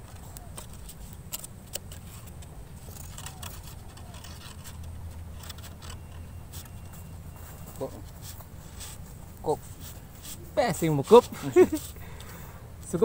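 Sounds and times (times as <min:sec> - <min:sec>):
light scrapes and scratches: 0:00.1 - 0:12.0.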